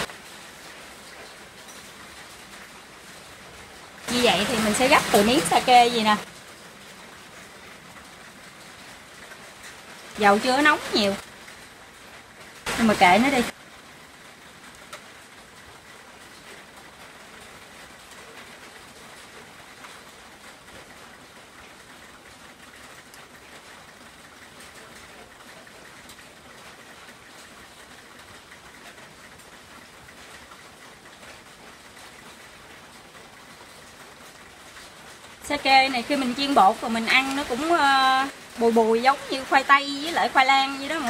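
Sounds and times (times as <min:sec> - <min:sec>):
food frying in oil: 0:00.0 - 0:41.0.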